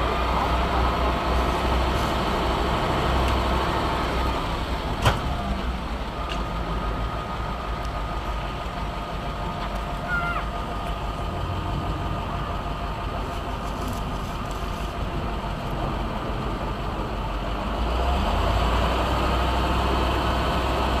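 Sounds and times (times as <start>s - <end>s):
heavy machine engine rumbling: 0.0s - 21.0s.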